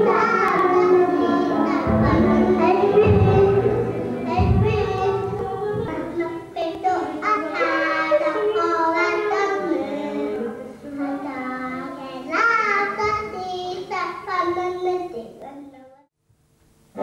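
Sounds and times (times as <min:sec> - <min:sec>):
music: 0:00.0 - 0:13.6
high wordless singing voice: 0:00.0 - 0:15.0.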